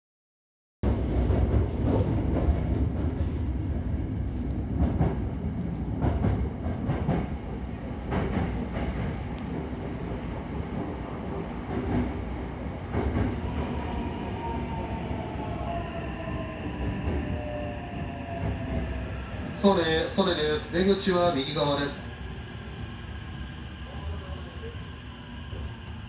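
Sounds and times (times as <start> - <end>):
electric train rumbling: 0.8 - 26.0.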